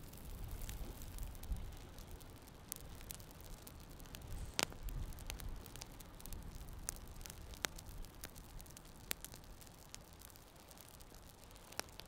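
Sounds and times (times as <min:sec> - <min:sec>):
campfire crackling: 0:00.0 - 0:12.0
faint low rumble: 0:00.0 - 0:12.0
sharp fire pops: 0:00.0 - 0:12.0.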